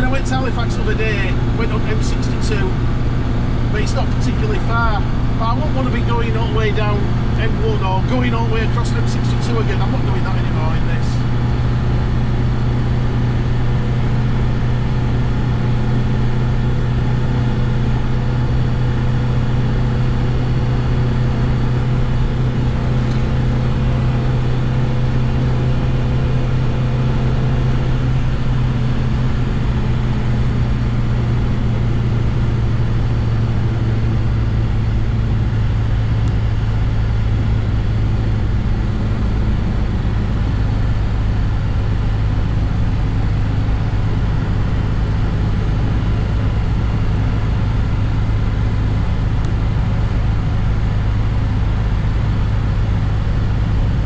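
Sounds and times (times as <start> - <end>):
car engine running: 0.0 - 54.0
road noise: 0.0 - 54.0.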